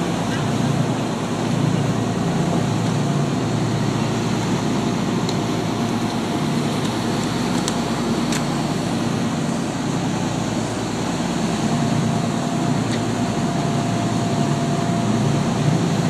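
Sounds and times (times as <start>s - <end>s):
boat engine droning: 0.0s - 16.0s
wind: 0.0s - 16.0s.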